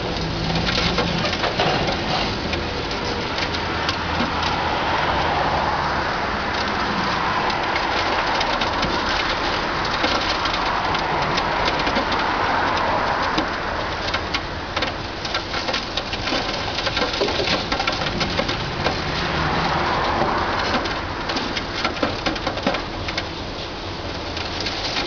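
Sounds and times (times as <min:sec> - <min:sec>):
falling rubble clattering: 0:00.0 - 0:05.4, 0:06.5 - 0:23.2.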